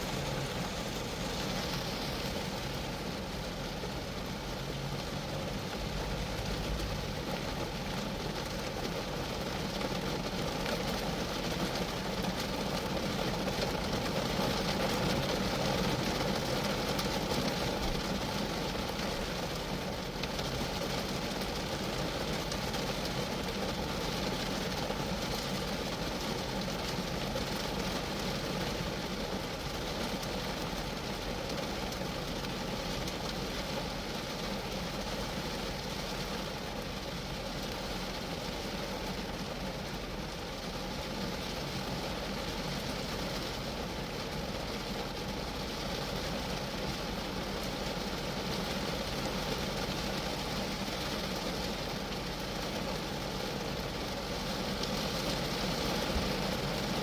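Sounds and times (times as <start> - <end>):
rain drumming on a metal roof: 0.0 - 57.0.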